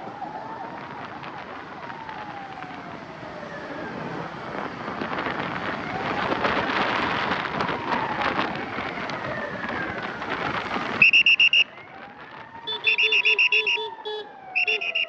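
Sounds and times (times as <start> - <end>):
wind on microphone: 0.0 - 13.5
faint siren wailing: 0.0 - 15.0
road traffic: 0.0 - 15.0.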